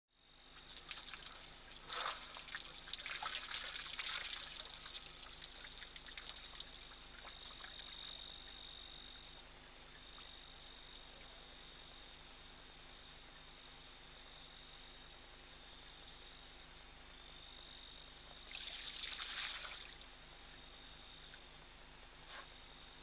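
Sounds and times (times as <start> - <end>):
high-pitched insect call: 0.2 - 21.6.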